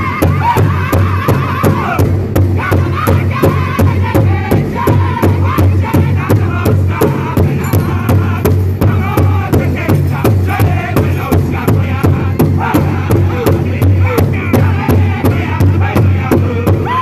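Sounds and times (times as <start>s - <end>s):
large drum beating: 0.0s - 17.0s
men singing in unison: 0.0s - 17.0s.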